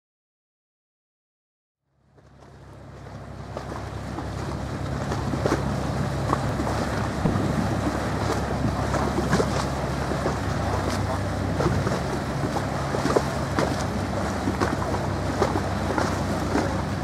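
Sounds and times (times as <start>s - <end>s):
boat diesel engine droning: 1.9s - 17.0s
water noise: 1.9s - 17.0s
wind: 1.9s - 17.0s.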